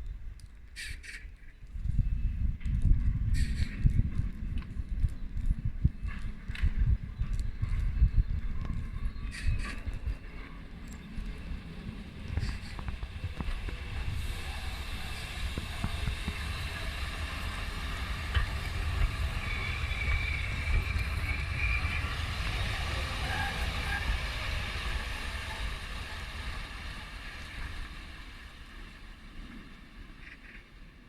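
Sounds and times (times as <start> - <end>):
train wheels rumbling on track: 0.0 - 31.0
high squeal of train wheels: 0.7 - 30.6.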